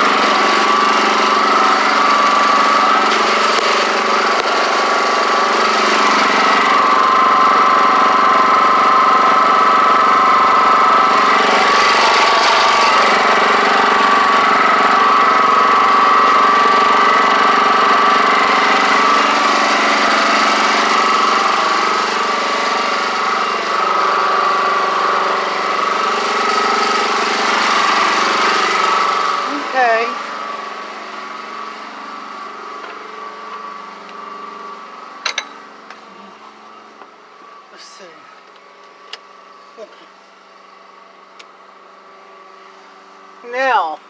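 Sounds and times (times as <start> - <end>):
generator engine running: 0.0 - 44.0.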